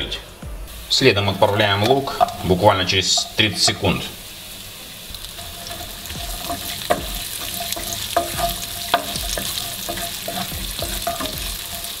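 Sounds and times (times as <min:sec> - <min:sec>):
onion sizzling in a frying pan: 0:00.0 - 0:12.0
spatula scraping a pan: 0:01.0 - 0:04.2, 0:05.3 - 0:12.0.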